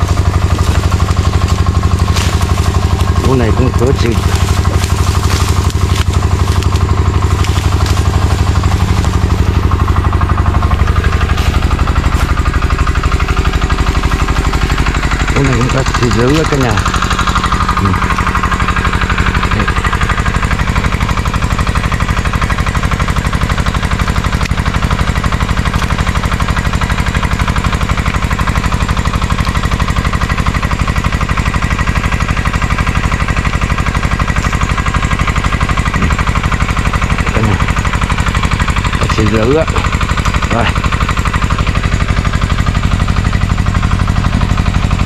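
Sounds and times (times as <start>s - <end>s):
engine chugging: 0.0s - 45.0s.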